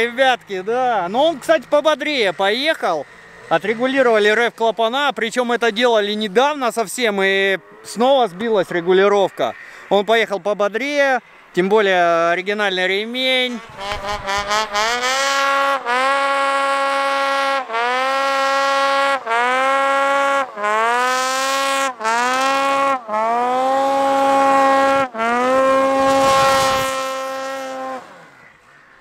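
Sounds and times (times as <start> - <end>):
snowmobile engine at full throttle: 0.0 - 29.0.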